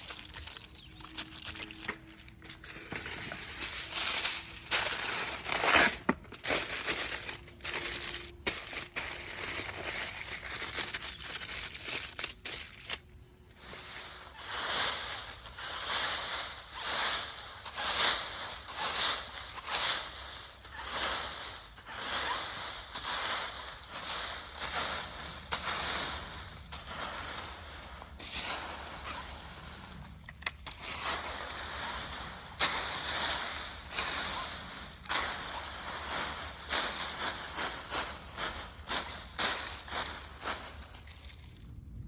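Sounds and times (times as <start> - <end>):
dry leaves rustling and crunching: 0.0 - 42.0.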